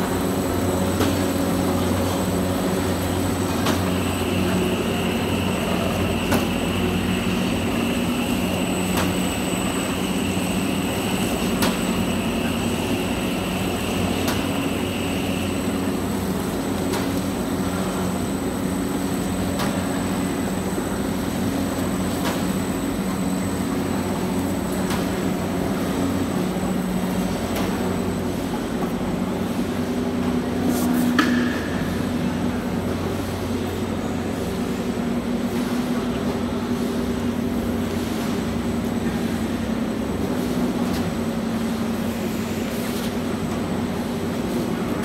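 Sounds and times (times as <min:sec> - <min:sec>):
machinery low hum: 0:00.0 - 0:45.0.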